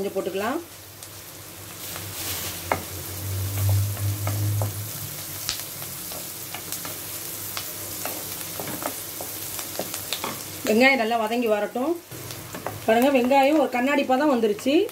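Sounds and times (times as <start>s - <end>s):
onions sizzling in oil: 0.0s - 14.9s.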